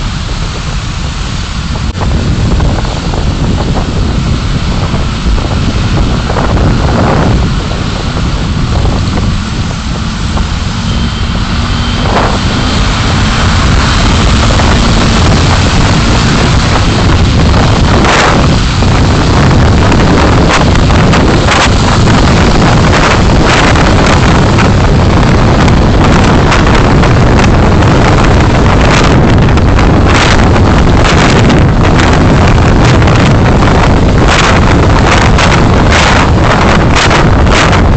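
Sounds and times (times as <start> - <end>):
car driving rumble: 0.0 - 37.9
road and wind noise: 0.0 - 37.9.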